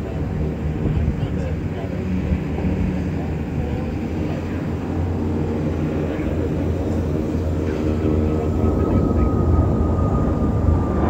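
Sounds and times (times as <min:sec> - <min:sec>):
jet airliner taking off: 0:00.0 - 0:11.0.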